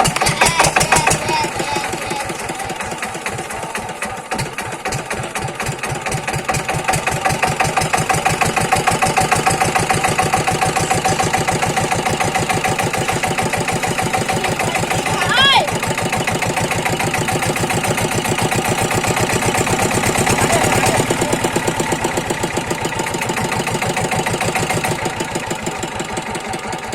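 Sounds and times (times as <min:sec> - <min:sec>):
diesel engine driving water pump: 0:00.0 - 0:26.9.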